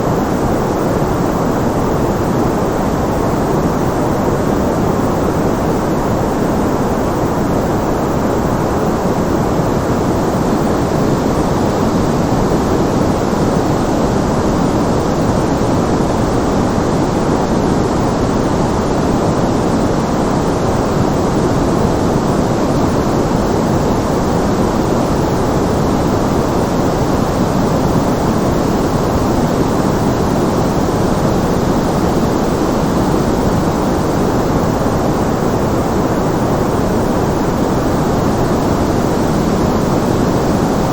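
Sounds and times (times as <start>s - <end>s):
deep rushing white noise: 0.0s - 40.9s.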